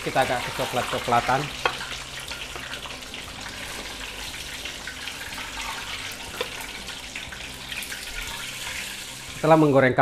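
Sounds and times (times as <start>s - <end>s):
hot oil sizzling and crackling: 0.0s - 10.0s.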